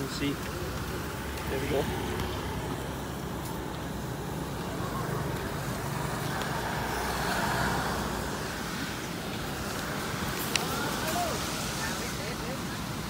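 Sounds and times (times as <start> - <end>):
road traffic noise: 0.0 - 13.0
vehicle passing: 0.0 - 13.0.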